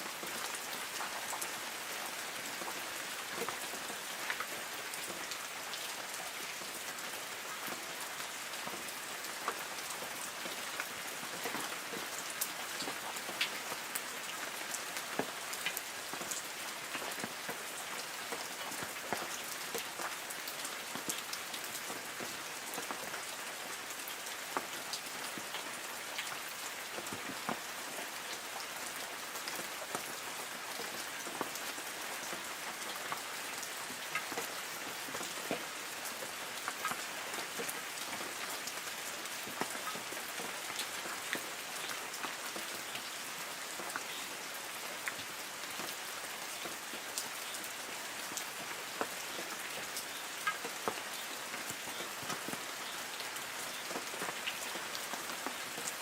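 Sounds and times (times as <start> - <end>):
rain hiss: 0.0 - 56.0
raindrops pattering on leaves: 0.0 - 56.0.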